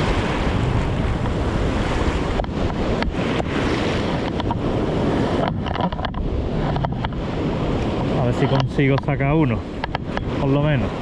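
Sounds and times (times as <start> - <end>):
waves breaking on shore: 0.0 - 11.0
wind rumbling on microphone: 0.0 - 11.0.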